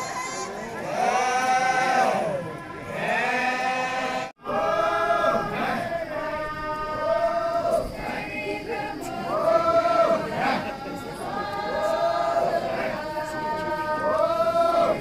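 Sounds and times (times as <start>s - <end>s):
group chanting in held notes: 0.0s - 15.0s.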